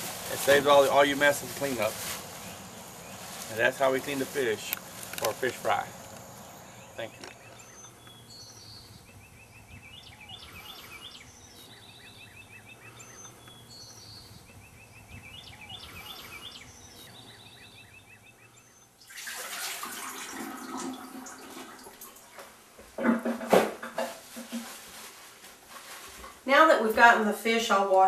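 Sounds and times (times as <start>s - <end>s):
birds singing and calling: 0.0s - 22.6s.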